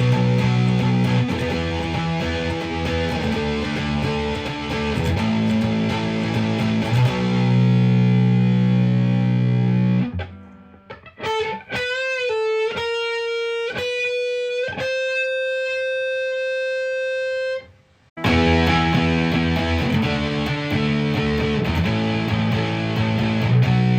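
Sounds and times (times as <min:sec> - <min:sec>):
distorted electric guitar chords: 0:00.0 - 0:23.9
electric guitar lead with bends: 0:00.0 - 0:23.9.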